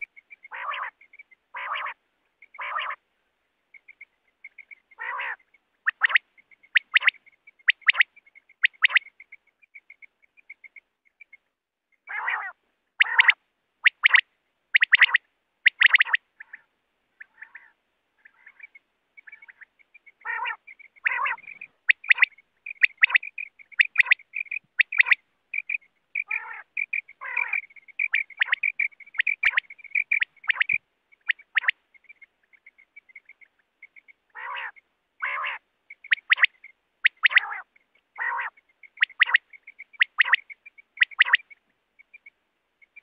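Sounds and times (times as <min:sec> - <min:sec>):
quail calling: 0:00.0 - 0:03.0, 0:03.7 - 0:11.4, 0:12.0 - 0:43.0.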